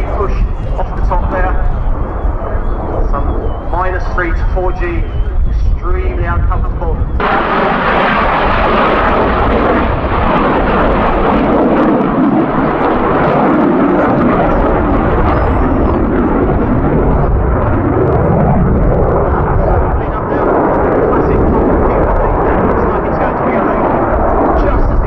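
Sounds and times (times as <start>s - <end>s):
jet engine roaring with crackle: 0.0s - 25.0s.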